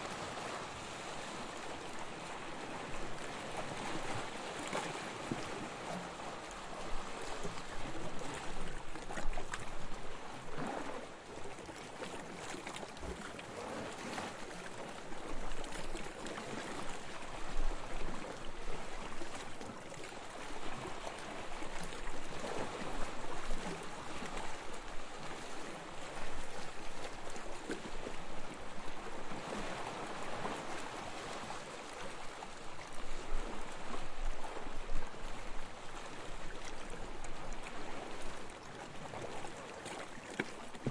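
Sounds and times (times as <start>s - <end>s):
gentle waves washing onto beach: 0.0s - 40.9s.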